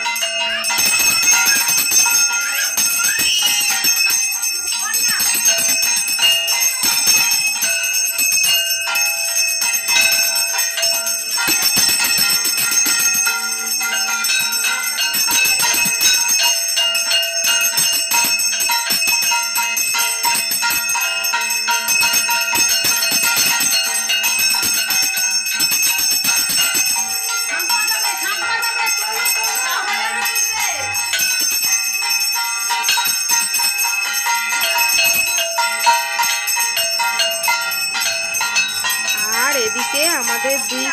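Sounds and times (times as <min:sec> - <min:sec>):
hand bell ringing: 0:00.0 - 0:40.9.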